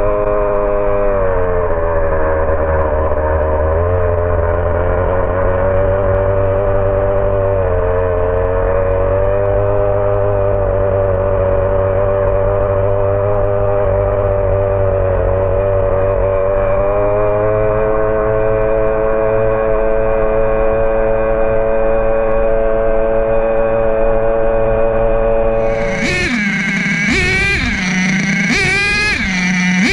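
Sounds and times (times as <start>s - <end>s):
small engine buzzing at high revs: 0.0s - 29.9s.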